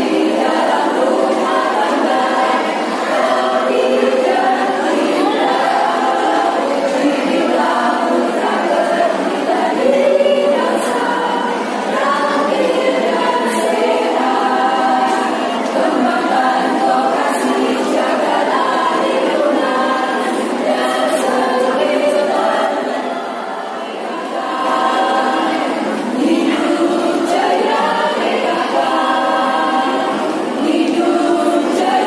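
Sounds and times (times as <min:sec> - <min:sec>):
women's choir singing a march: 0:00.0 - 0:32.0.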